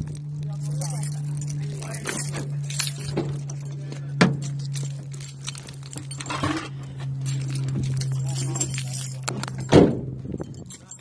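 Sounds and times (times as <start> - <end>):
gear and phone handling clinks: 0.0 - 11.0
steady low hum: 0.0 - 11.0.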